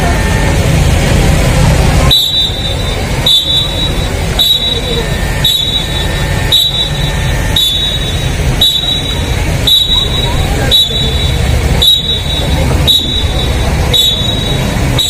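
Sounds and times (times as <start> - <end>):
steady low rumble: 0.0 - 15.0
short high electronic beep: 2.1 - 15.0.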